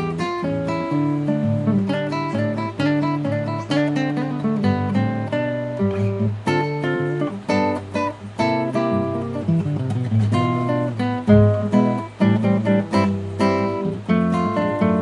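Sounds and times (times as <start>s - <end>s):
plucked string ensemble music: 0.0s - 15.0s.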